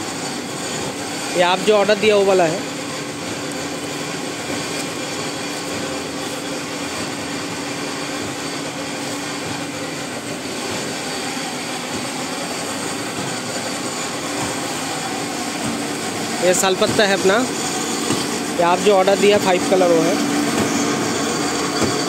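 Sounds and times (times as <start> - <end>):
factory machinery running: 0.0 - 22.0.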